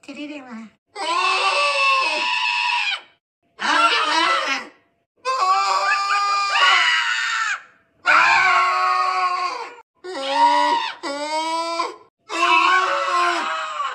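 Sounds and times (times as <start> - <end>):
person screaming: 1.0 - 13.9.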